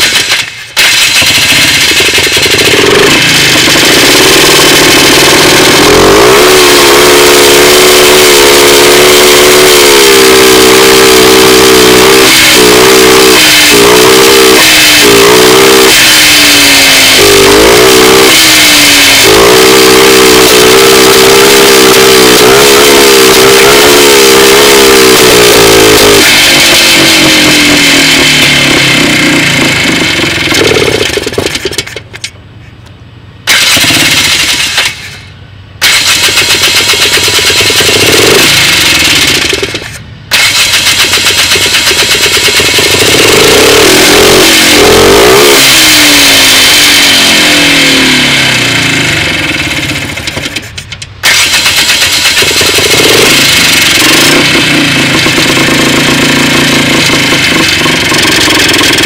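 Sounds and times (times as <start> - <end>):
quad engine misfiring: 0.0 - 32.6, 33.3 - 59.0.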